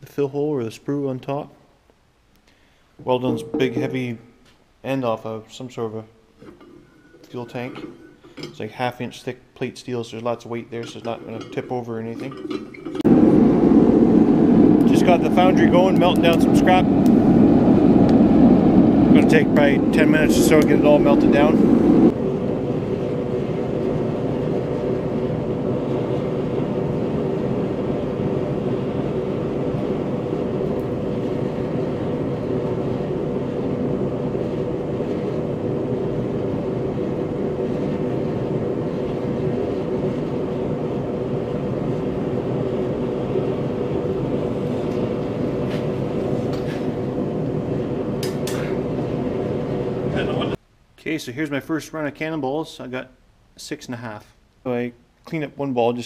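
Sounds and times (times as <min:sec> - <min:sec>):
furnace roaring: 0:02.6 - 0:50.6.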